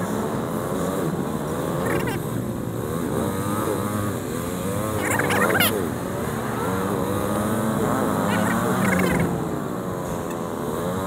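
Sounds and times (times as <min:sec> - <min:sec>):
sped-up motorcycle engine: 0:00.0 - 0:11.0.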